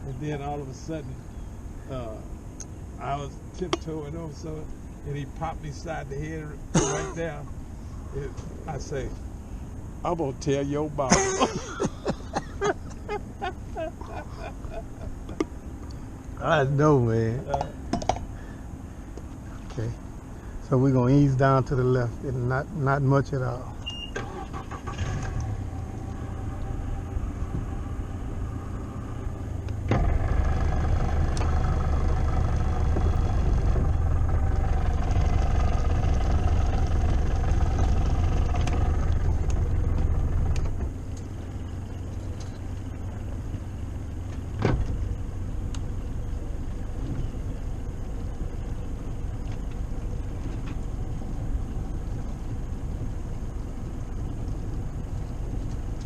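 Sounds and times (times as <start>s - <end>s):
boat motor running with whine: 0.0s - 56.0s.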